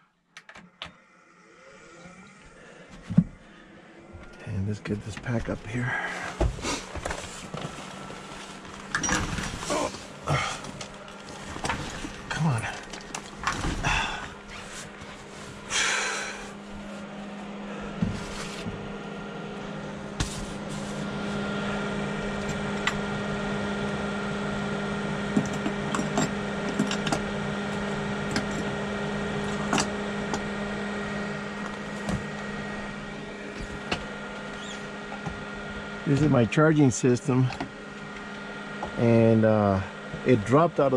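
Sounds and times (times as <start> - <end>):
low machine hum: 0.8 - 40.9.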